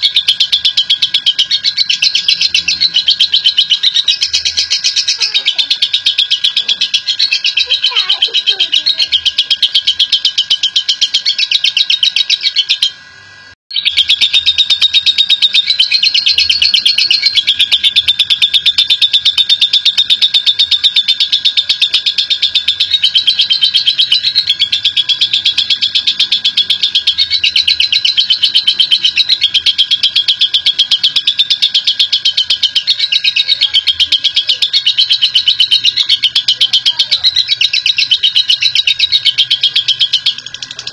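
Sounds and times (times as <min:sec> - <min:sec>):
bird high-pitched chattering trill: 0:00.0 - 0:13.1, 0:13.7 - 0:40.9.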